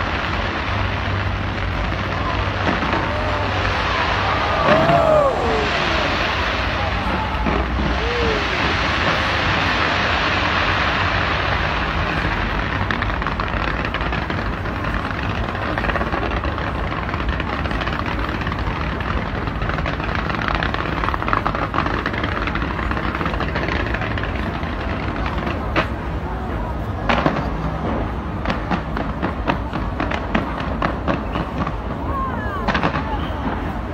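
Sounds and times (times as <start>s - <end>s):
fireworks rumble and crackle: 0.0s - 33.9s
sharp fireworks bangs: 0.0s - 33.9s.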